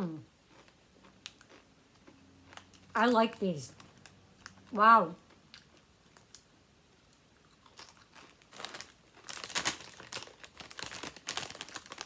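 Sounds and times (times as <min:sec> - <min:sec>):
person chewing crunchy chips: 0:00.0 - 0:06.5, 0:07.4 - 0:12.0.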